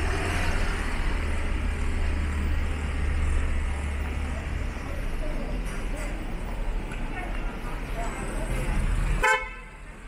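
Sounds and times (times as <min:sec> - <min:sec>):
street noise: 0:00.0 - 0:10.0
vehicle engine rumbling: 0:00.0 - 0:10.0.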